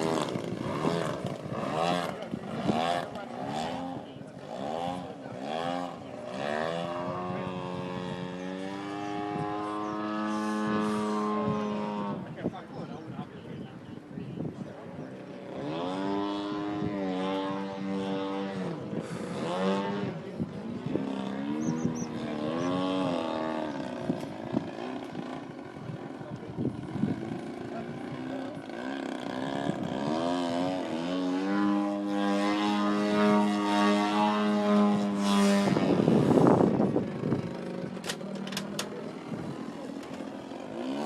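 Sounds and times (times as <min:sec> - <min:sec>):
model airplane motor buzzing: 0:00.0 - 0:41.0.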